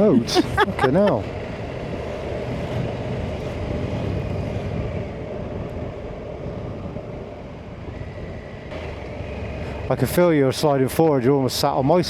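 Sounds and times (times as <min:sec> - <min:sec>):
wind rushing over microphone: 0:00.1 - 0:12.0.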